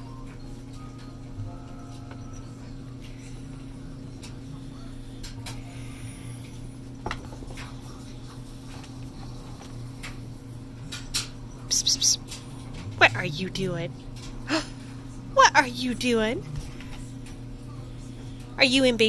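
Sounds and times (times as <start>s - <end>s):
low hum: 0.0s - 17.2s.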